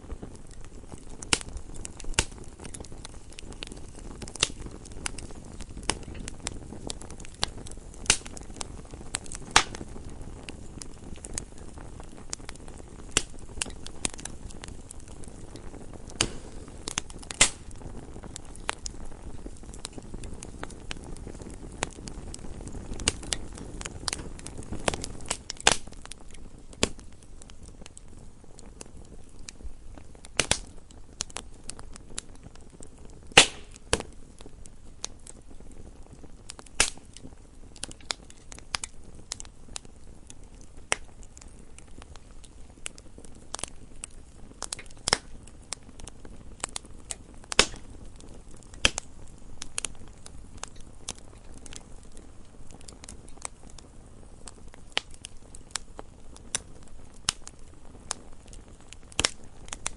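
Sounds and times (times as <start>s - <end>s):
faint low hiss: 0.0s - 59.9s
wood fire crackling and popping: 0.0s - 59.9s.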